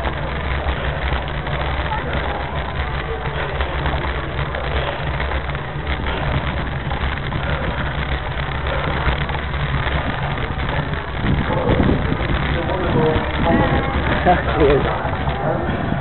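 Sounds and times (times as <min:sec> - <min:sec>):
bicycle rattling over cobbles: 0:00.0 - 0:16.0.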